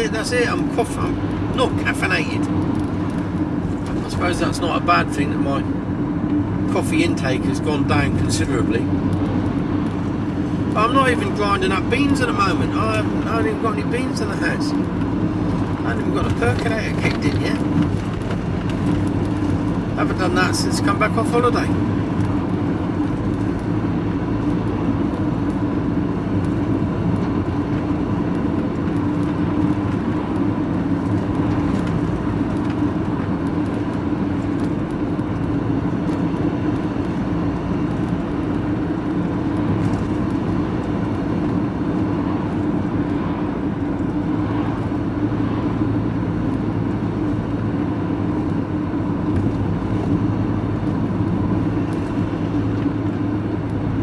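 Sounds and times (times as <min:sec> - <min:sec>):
lorry engine and road drone: 0:00.0 - 0:54.0.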